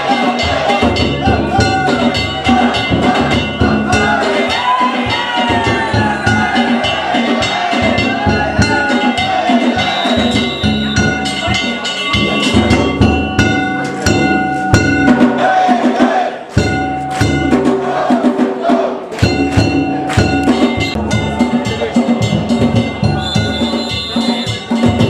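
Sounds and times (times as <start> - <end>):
metal gongs ringing: 0.0 - 15.5, 16.5 - 17.7, 19.2 - 25.0
taiko drum: 0.0 - 25.0.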